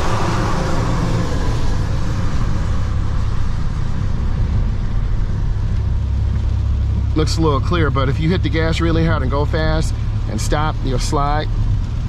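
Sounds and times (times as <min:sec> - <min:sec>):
road and tyre noise in car: 0:00.0 - 0:12.0.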